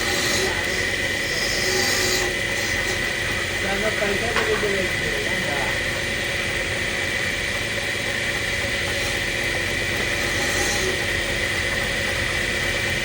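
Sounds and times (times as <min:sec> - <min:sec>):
wood lathe motor whine: 0:00.0 - 0:13.0.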